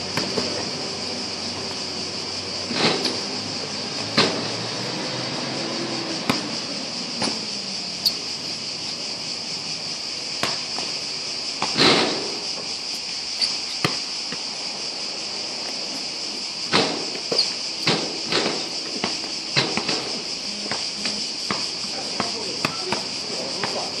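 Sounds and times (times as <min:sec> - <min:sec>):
cicadas buzzing: 0:00.0 - 0:24.0.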